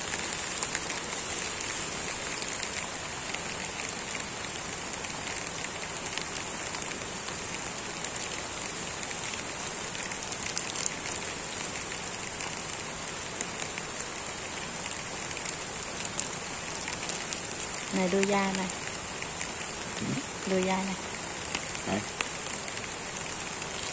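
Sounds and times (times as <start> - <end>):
raindrops clicking on plastic: 0.0 - 23.9
steady rain falling: 0.0 - 23.9.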